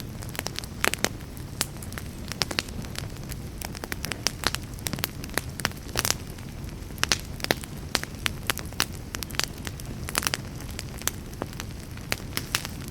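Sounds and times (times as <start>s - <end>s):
campfire crackling and popping: 0.0s - 12.9s.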